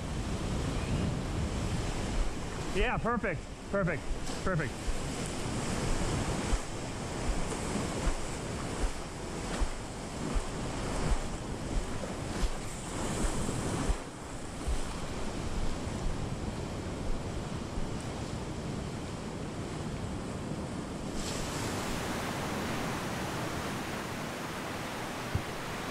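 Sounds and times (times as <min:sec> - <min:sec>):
ocean surf sloshing around pilings: 0:00.0 - 0:25.9
wind buffeting microphone: 0:00.0 - 0:25.9.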